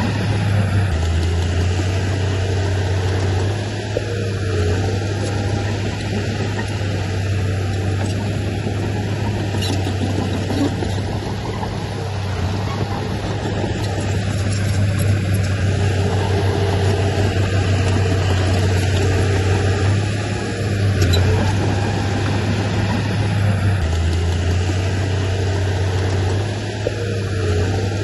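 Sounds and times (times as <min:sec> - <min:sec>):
heavy diesel engine humming: 0:00.0 - 0:28.0.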